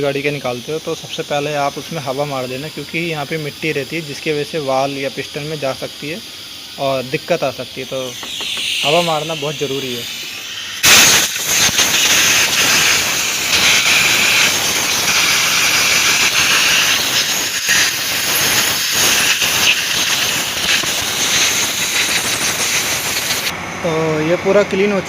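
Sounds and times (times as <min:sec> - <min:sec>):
compressed air blow gun hissing: 0:00.0 - 0:23.5.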